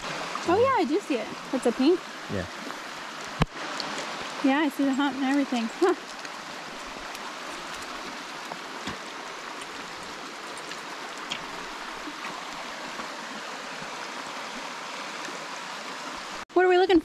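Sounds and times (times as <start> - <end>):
creek rushing over rocks: 0.0 - 16.4.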